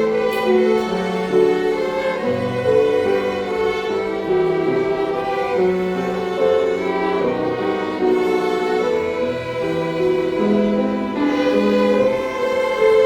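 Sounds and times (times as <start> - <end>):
string orchestra playing hymn: 0.0 - 13.0.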